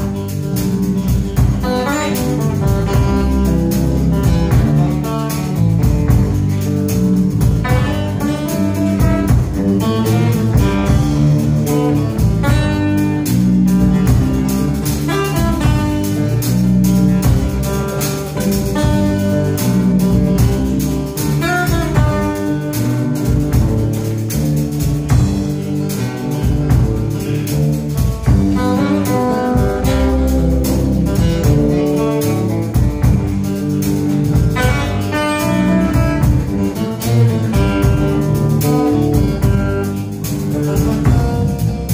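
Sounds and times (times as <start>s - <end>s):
acoustic guitar melody: 0.0s - 41.9s
drum kit: 0.0s - 41.9s
electric bass guitar: 0.0s - 41.9s.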